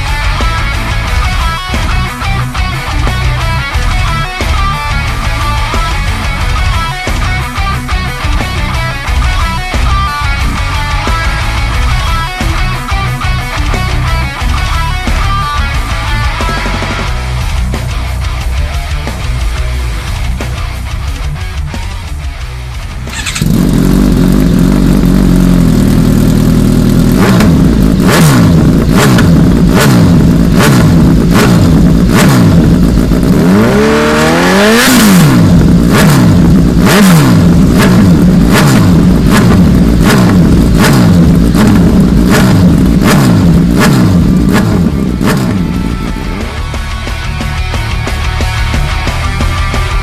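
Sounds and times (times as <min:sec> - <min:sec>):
regular sharp beats: 0:00.0 - 0:25.1, 0:27.1 - 0:50.0
motorcycle engine revving: 0:00.0 - 0:50.0.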